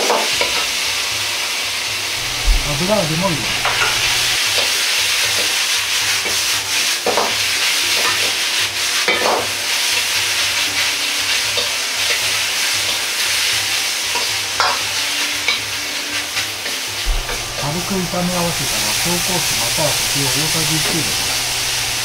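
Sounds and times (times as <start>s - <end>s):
food sizzling in a wok: 0.0s - 2.7s, 3.4s - 22.0s.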